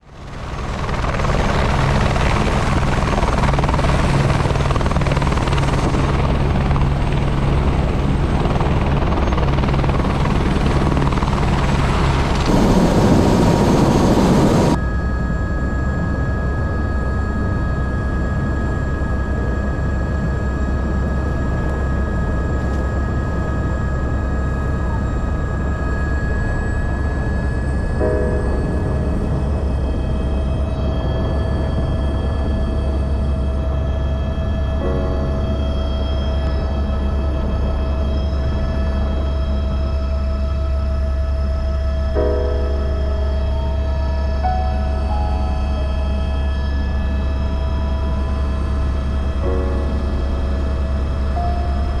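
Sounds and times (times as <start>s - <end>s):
helicopter rotor and engine: 0.0s - 52.0s
steady high whine: 0.0s - 52.0s.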